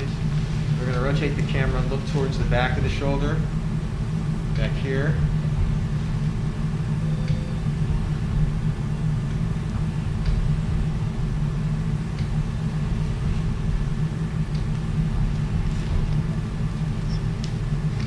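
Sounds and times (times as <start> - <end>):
equipment low rumble: 0.0 - 18.0.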